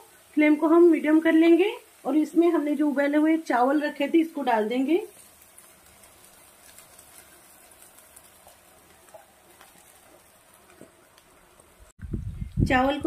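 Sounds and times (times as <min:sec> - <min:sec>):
rice pattering into wok: 0:00.0 - 0:12.2
frying sizzle: 0:00.0 - 0:13.0.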